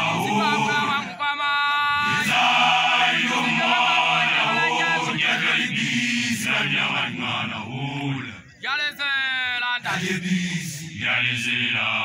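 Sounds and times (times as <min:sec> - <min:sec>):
young men chanting in unison: 0:00.0 - 0:01.2, 0:01.9 - 0:08.6, 0:09.8 - 0:12.0.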